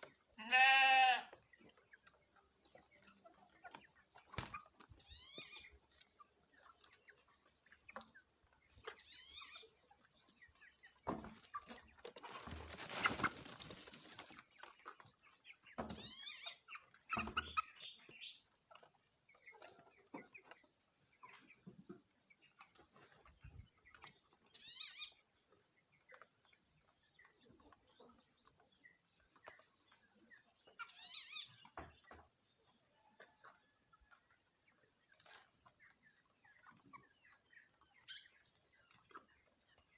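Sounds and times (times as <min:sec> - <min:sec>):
chickens calling: 0:00.0 - 0:39.9.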